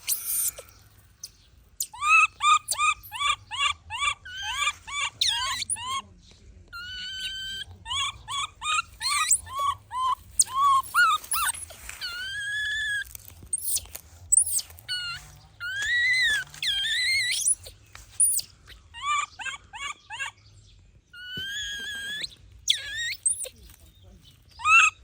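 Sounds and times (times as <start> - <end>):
baby monkey crying: 0.0 - 0.7, 1.8 - 6.0, 6.8 - 20.4, 21.2 - 23.5, 24.5 - 25.0.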